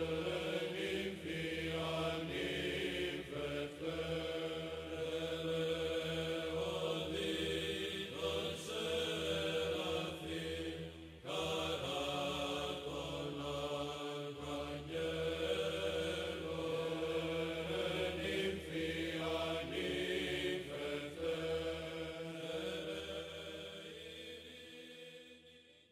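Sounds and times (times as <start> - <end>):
chanted vocal music: 0.0 - 25.9.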